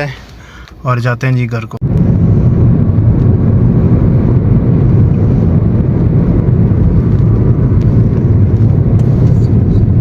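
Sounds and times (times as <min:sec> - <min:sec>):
car engine rumble: 0:00.0 - 0:10.0
road noise: 0:00.0 - 0:10.0.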